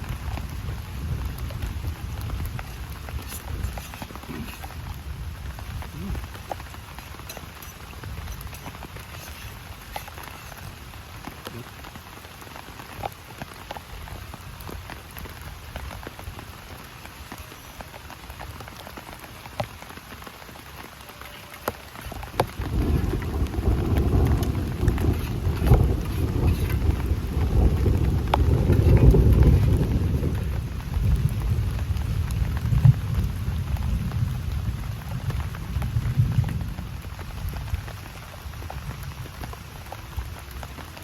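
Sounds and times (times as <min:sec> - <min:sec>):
heavy rain falling: 0:00.0 - 0:41.0
raindrops ticking on surfaces: 0:00.0 - 0:41.0.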